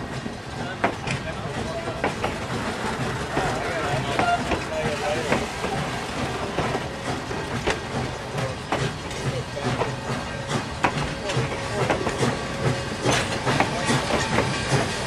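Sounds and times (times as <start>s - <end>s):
train coaches rumbling past: 0.0s - 15.0s
wheels clicking over rail joints: 0.0s - 15.0s.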